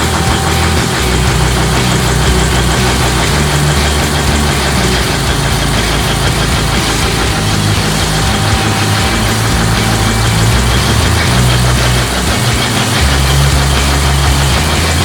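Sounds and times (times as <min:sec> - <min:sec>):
diesel generator engine humming: 0:00.0 - 0:15.0.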